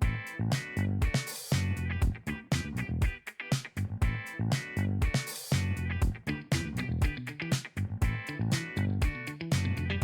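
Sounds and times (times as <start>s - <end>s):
funky music with plucked guitar: 0.0s - 10.0s
steady drum beat: 0.0s - 10.0s.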